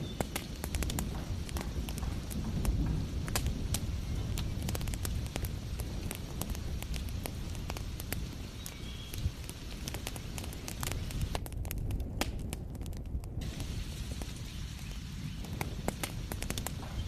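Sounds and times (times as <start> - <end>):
heavy rain hissing: 0.0 - 11.4, 13.4 - 17.0
wood fire crackling and popping: 0.0 - 17.0.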